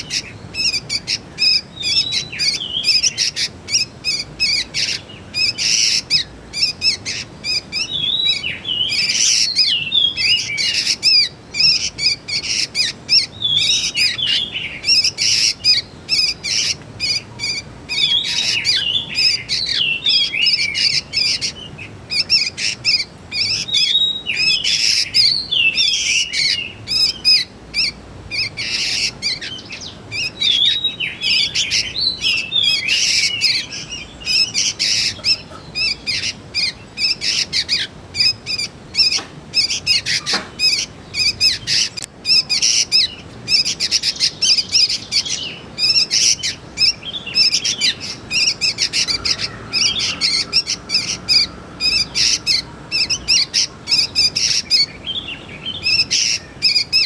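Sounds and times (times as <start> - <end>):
young birds chirping: 0.0 - 57.0.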